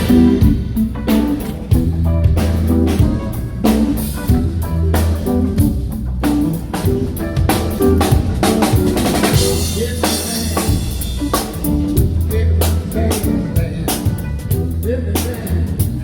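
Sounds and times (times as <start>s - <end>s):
drum kit beating steady rhythm: 0.0s - 16.0s
electric guitar: 0.0s - 16.0s
sustained electric bass notes: 0.0s - 16.0s.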